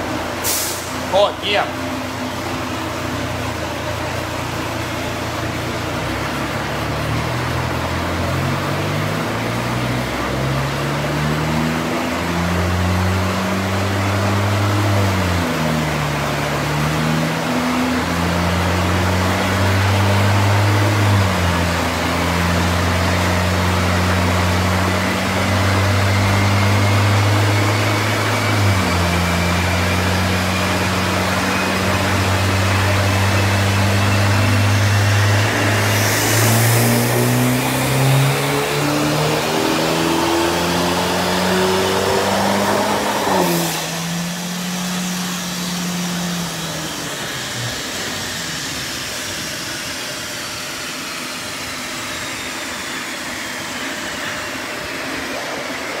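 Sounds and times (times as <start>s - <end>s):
car engine on dyno: 0.0s - 56.0s
dyno rollers whining: 0.0s - 56.0s.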